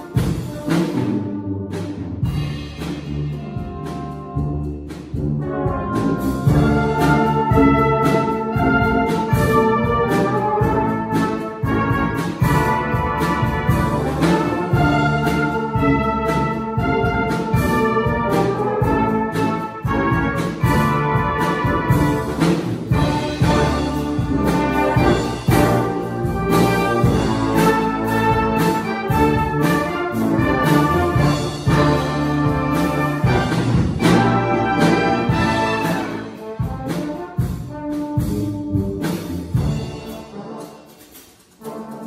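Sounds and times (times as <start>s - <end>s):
brass band playing rock: 0.0s - 42.0s.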